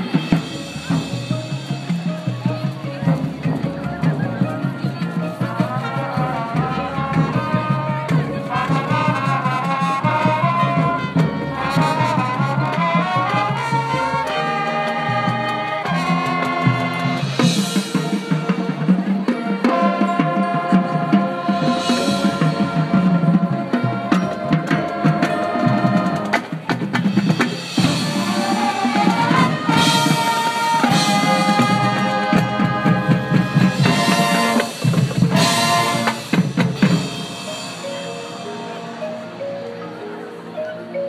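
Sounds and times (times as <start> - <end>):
drum line: 0.0 - 38.4
brass and saxophone chords: 0.0 - 41.0
mallet percussion: 0.0 - 41.0.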